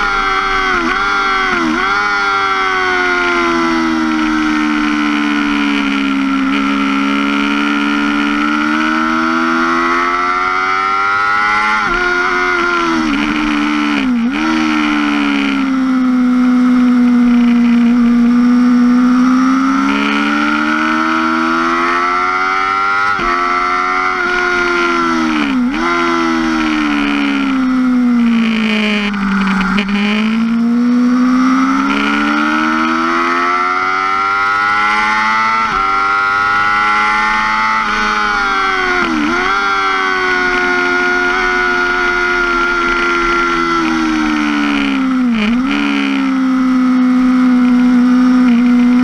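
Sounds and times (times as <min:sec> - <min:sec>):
gear changes: 0:00.0 - 0:49.0
motorcycle engine at high revs: 0:00.0 - 0:49.0.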